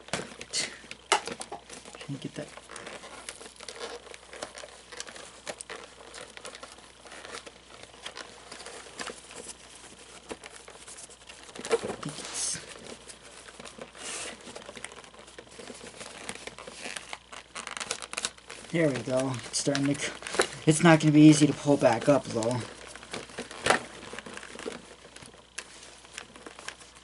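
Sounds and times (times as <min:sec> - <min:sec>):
fabric and foam peeling apart: 0:00.0 - 0:27.0.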